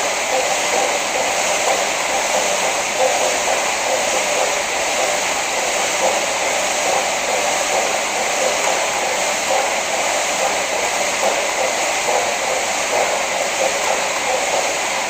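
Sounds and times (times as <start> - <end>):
flywheel fan whirring: 0.0 - 15.0.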